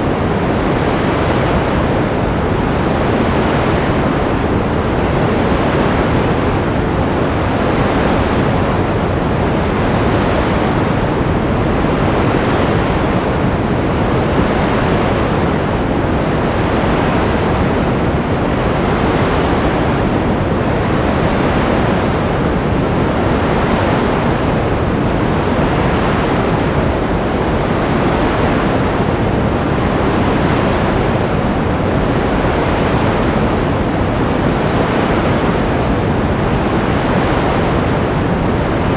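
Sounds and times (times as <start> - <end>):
ocean surf rushing: 0.0 - 38.9.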